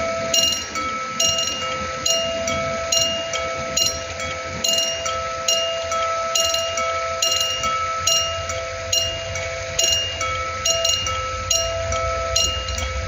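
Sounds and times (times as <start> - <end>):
level-crossing bells ringing: 0.0 - 13.0.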